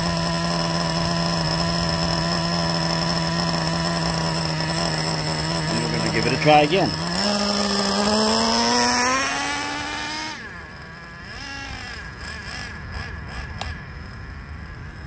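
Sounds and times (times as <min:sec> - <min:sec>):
model engine accelerating: 0:00.0 - 0:15.0.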